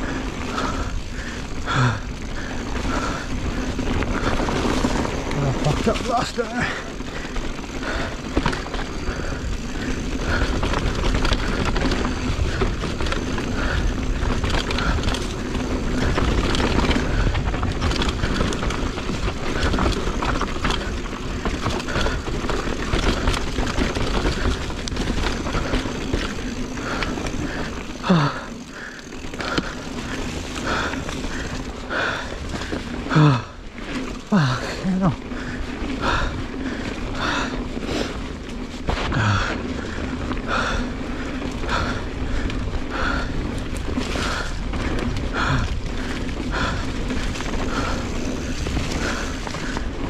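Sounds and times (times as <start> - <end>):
bike rattles and clicks: 0.0 - 50.0
bike tyre rumble: 0.0 - 50.0.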